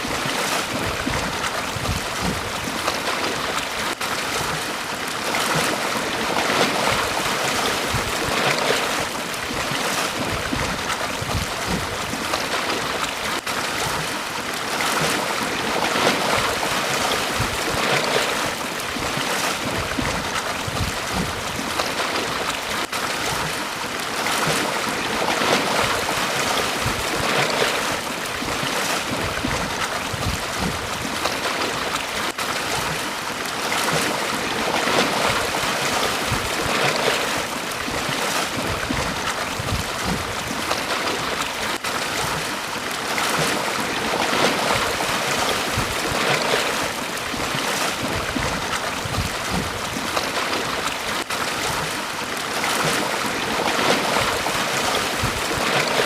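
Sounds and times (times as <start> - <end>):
sea waves washing up a beach: 0.0 - 56.0.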